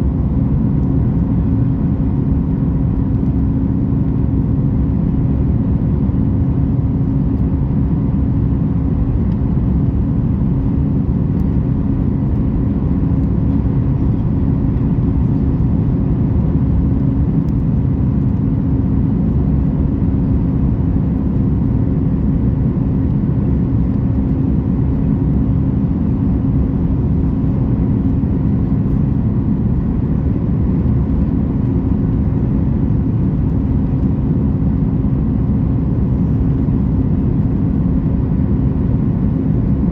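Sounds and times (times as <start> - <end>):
aircraft engines and airflow rush: 0.0 - 39.9.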